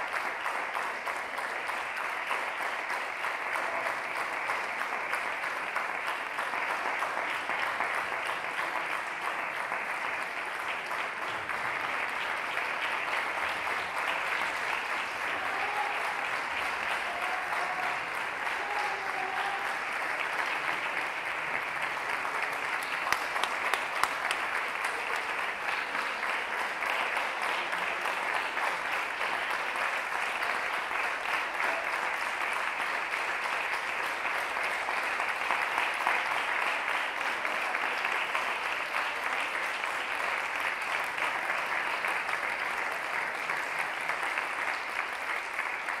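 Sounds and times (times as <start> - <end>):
audience applauding: 0.0 - 46.0.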